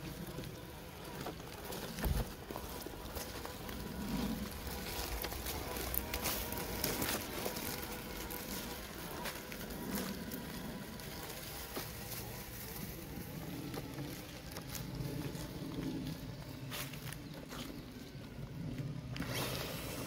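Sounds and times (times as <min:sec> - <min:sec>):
leaves and twigs crackling under tyres: 0:00.0 - 0:20.0
toy car electric motor running: 0:00.0 - 0:20.0.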